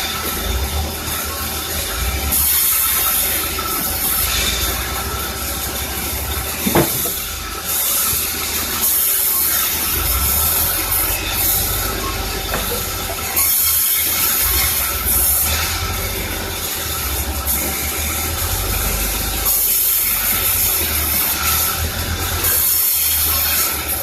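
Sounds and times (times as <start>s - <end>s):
machinery hiss: 0.0s - 24.0s
sawmill machinery rumbling: 0.0s - 24.0s.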